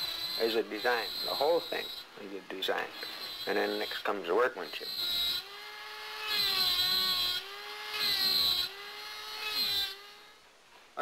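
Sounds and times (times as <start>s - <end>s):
rotary tool grinding bone: 0.0s - 10.3s.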